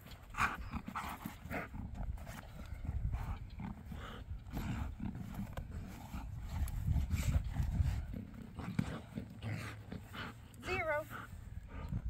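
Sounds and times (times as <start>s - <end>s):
dog breathing sounds: 0.1s - 12.0s.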